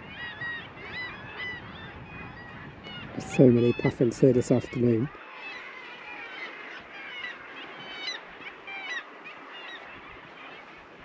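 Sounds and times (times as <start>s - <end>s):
seabirds calling: 0.0s - 11.0s.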